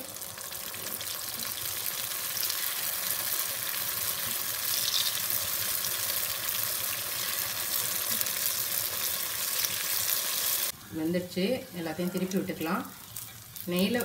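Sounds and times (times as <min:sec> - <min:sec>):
batter sizzling in hot oil: 0:00.0 - 0:10.8, 0:11.5 - 0:14.0.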